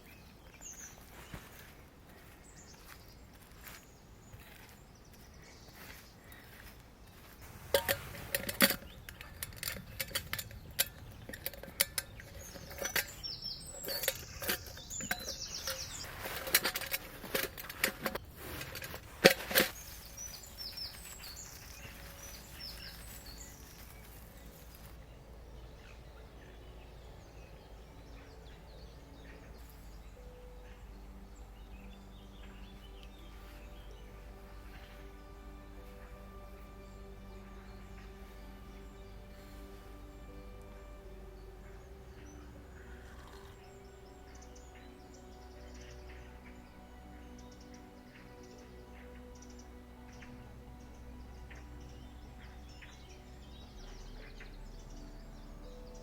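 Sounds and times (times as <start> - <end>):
small birds chirping: 0.0 - 56.0
camp gear clinking and knocking: 7.2 - 56.0.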